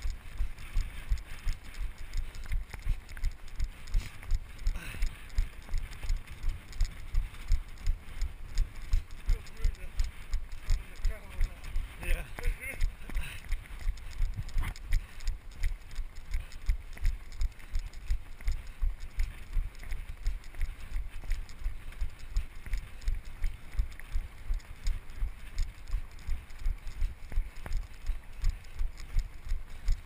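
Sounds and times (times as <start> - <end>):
running footsteps thudding: 0.0 - 30.0.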